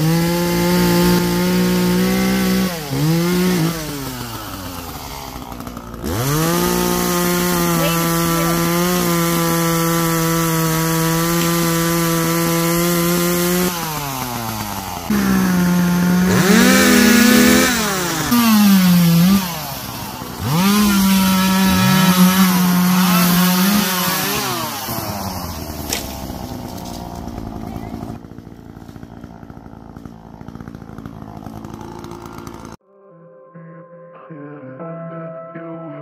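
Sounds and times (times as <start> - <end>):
power saw cutting wood: 0.0 - 32.8.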